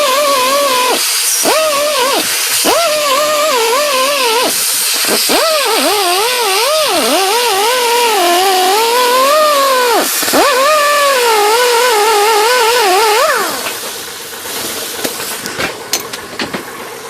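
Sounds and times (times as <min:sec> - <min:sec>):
electric power tool whining: 0:00.0 - 0:14.1.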